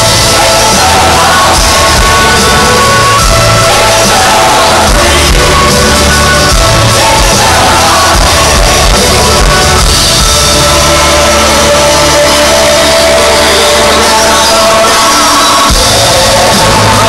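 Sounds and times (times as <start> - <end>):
crowd shouting: 0.0 - 17.0
live rock band playing: 0.0 - 17.0.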